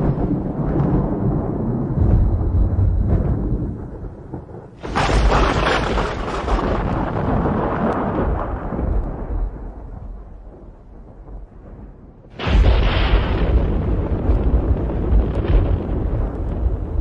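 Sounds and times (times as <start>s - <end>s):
low thunder rumble: 0.0s - 17.0s
sharp thunderclap: 0.0s - 17.0s.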